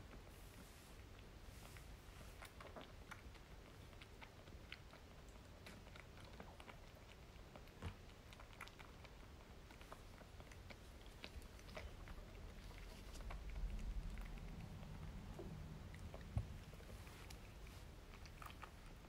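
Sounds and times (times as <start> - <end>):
kitten suckling wet clicks: 0.0 - 19.0.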